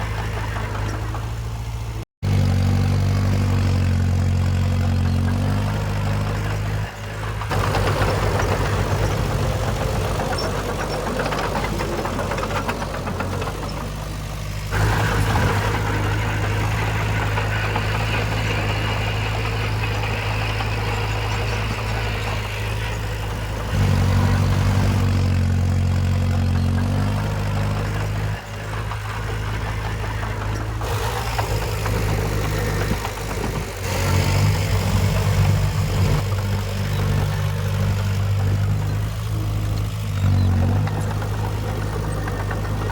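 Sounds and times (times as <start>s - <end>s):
heavy machinery diesel engine: 0.0s - 42.9s.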